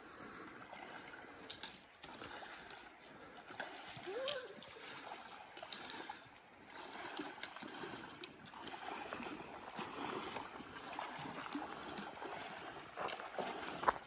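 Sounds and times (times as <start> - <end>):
water splashing around wading legs: 0.1 - 14.0
river flowing over stones: 1.4 - 14.0.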